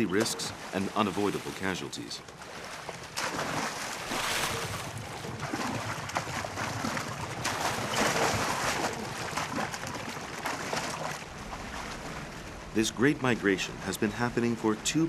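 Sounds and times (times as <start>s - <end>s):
water splashing and churning: 0.0s - 15.0s.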